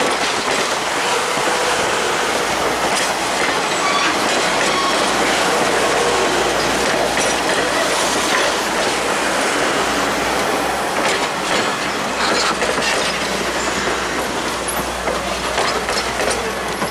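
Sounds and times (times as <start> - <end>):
wheels clicking over rail joints: 0.0 - 9.2, 10.4 - 16.9
steel train wheels rumbling: 0.0 - 16.9.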